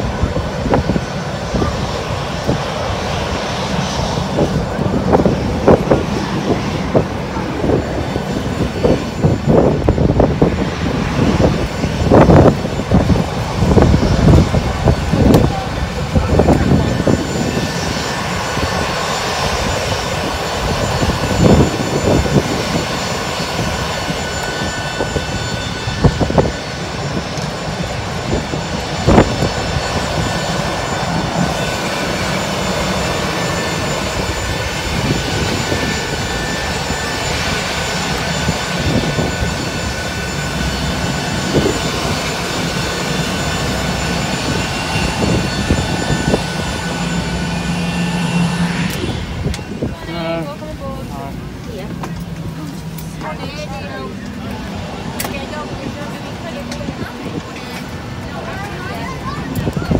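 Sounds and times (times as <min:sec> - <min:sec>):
jet turbine roar and whine: 0:00.0 - 0:59.9.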